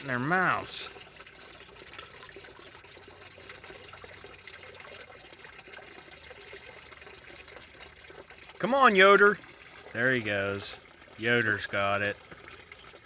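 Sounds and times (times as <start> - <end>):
water trickling into pond: 0.0 - 13.0.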